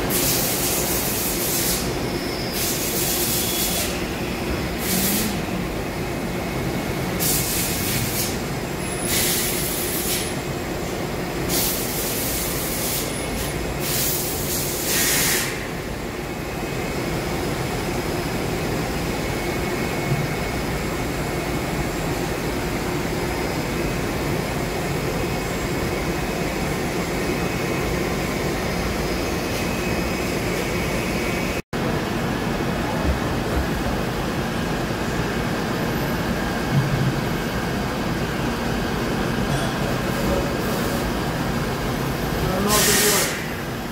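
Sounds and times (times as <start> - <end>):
machine shop drone: 0.0 - 43.9.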